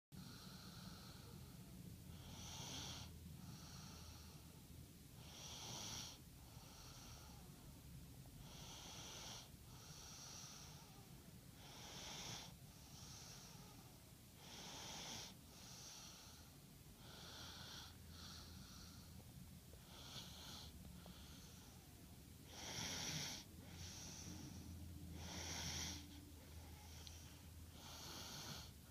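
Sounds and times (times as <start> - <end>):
faint breathy snoring: 0.2 - 28.9.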